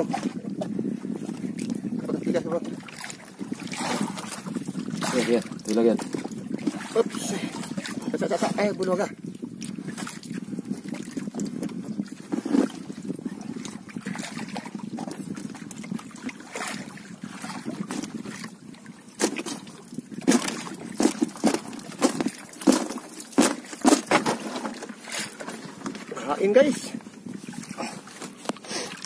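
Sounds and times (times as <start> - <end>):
water trickling and sloshing: 0.0 - 29.0.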